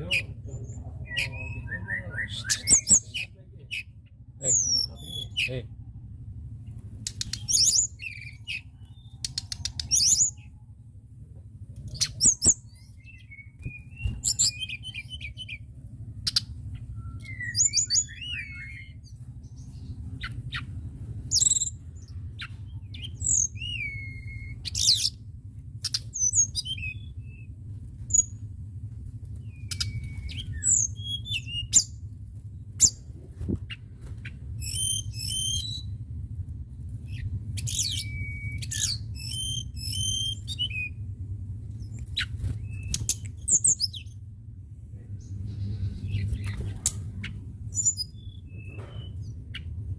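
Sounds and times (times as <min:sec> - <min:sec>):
songbird chirping and trilling: 0:00.0 - 0:05.8, 0:06.5 - 0:10.7, 0:11.8 - 0:28.5, 0:29.3 - 0:44.3, 0:45.0 - 0:49.9
steady low hum: 0:00.0 - 0:49.9.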